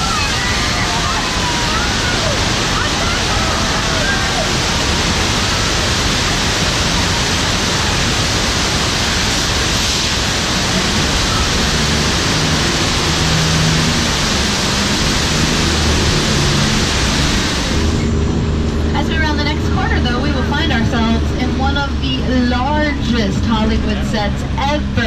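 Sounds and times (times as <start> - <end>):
cascading water rushing: 0.0 - 25.0
low hum: 0.0 - 25.0.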